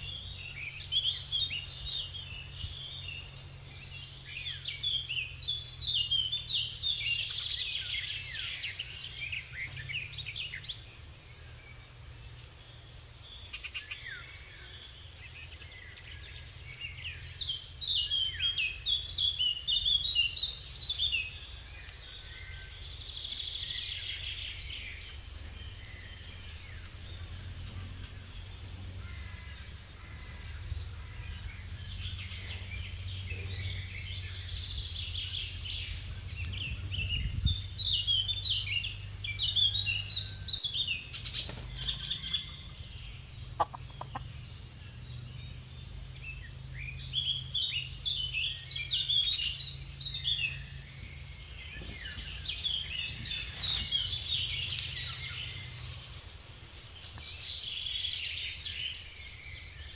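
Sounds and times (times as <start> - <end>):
low steady hum: 0.0 - 59.9
small birds chirping: 0.0 - 59.9.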